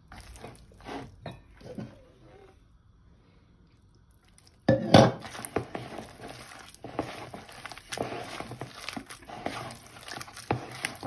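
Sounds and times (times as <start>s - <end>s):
hand squeezing food in bowl: 0.0s - 2.5s, 3.8s - 11.0s.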